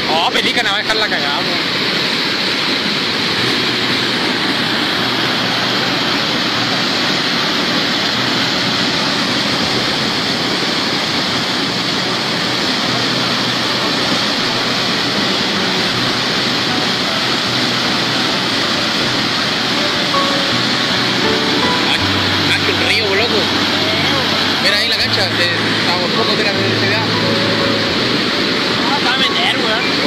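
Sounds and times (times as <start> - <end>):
flood water rushing: 0.0 - 30.0.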